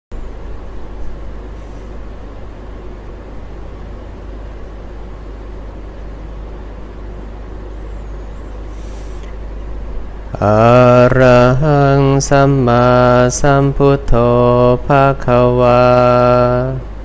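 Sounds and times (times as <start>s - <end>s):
low hum: 0.1s - 17.0s.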